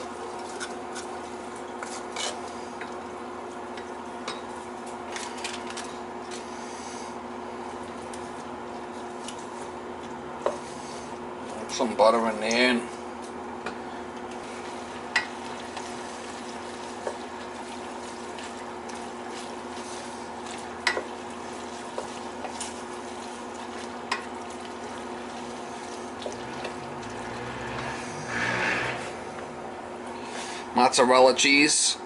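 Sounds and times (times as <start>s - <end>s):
range hood fan hum: 0.0s - 32.0s.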